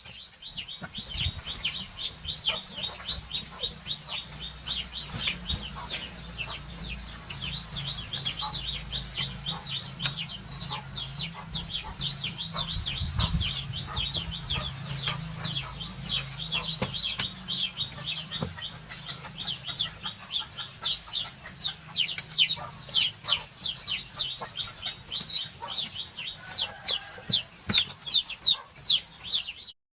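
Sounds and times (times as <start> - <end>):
rapid high-pitched chirping: 0.0 - 29.7.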